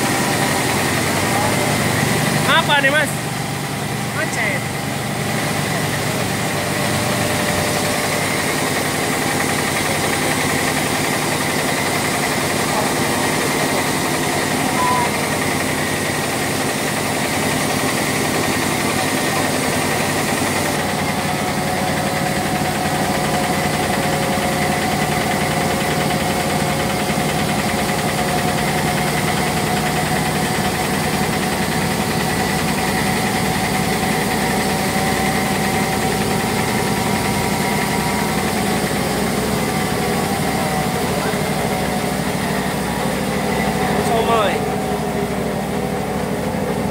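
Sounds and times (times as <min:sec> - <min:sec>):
grinding mill humming: 0:00.0 - 0:46.9.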